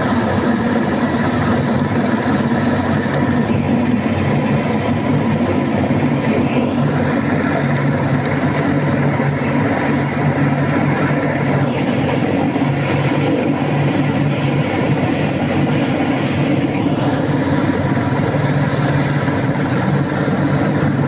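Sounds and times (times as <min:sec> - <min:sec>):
helicopter rotor and engines: 0:00.0 - 0:21.0.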